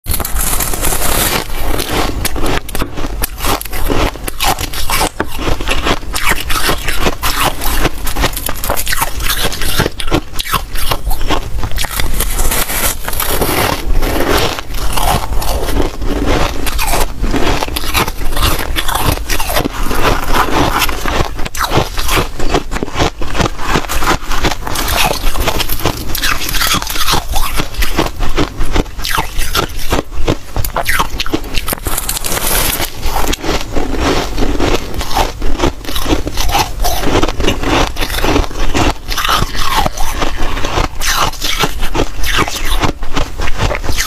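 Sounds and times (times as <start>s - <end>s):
ice being crunched and chewed: 0.1s - 44.0s.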